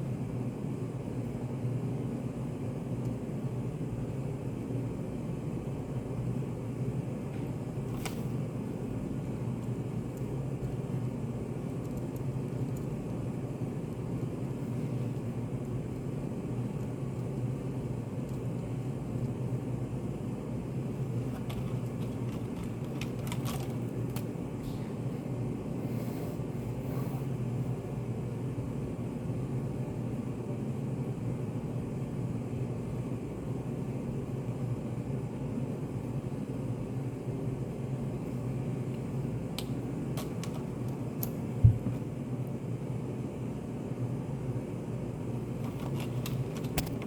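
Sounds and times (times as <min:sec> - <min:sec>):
low room hum and rumble: 0:00.0 - 0:47.0.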